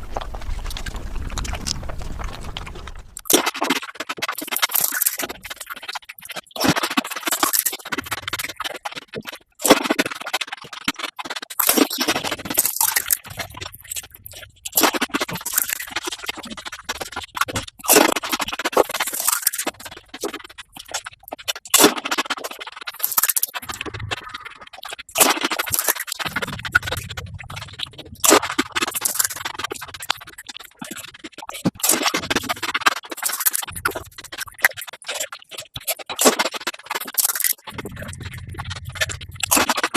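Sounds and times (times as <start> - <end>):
rapid crunching and chewing: 0.0 - 39.9.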